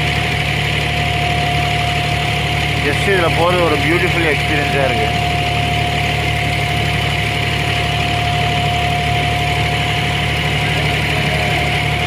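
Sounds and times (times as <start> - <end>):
boat engine drone: 0.0 - 12.0
steady whining tone: 0.0 - 12.0.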